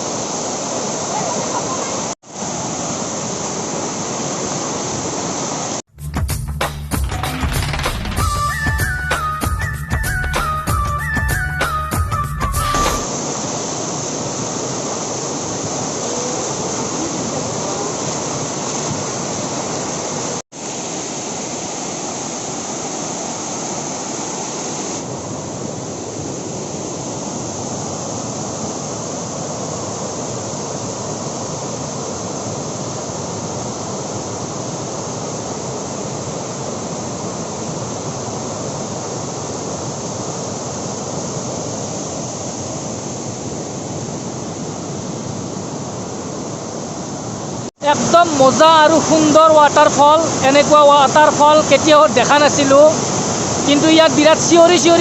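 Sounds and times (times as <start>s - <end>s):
waterfall rushing: 0.0s - 5.8s, 7.0s - 55.0s.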